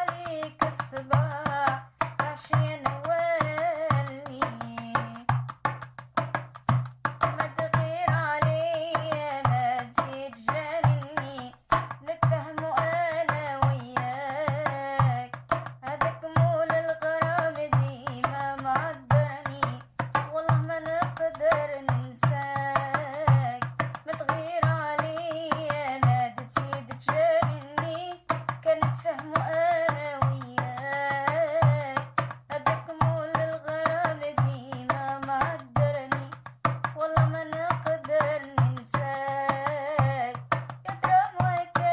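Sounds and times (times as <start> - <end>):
woman singing: 0.0 - 5.3, 7.2 - 41.9
music with percussion beat: 0.0 - 41.9.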